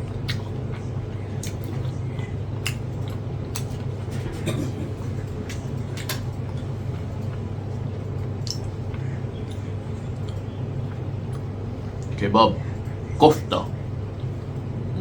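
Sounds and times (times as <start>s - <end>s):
person chewing food: 0.0s - 12.1s
steady low hum: 0.0s - 15.0s.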